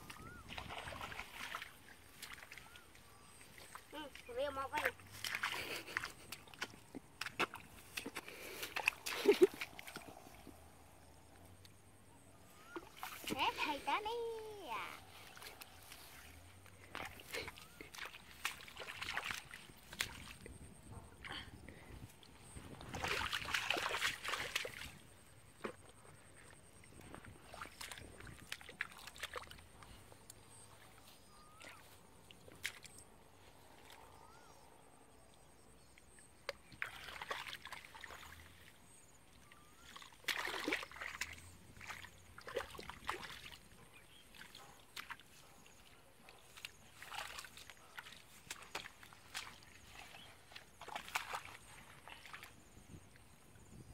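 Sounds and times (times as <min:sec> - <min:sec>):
sloshing in muddy water: 0:00.0 - 0:11.6, 0:12.2 - 0:53.9.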